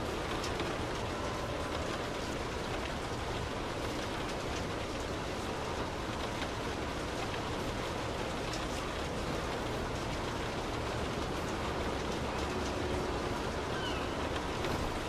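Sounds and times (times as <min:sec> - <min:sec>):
rain drumming on car roof: 0:00.0 - 0:15.0.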